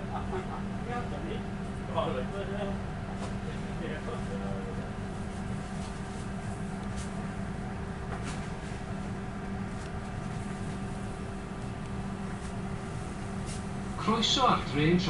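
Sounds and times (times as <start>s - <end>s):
train carriage hum and rumble: 0.0s - 15.0s.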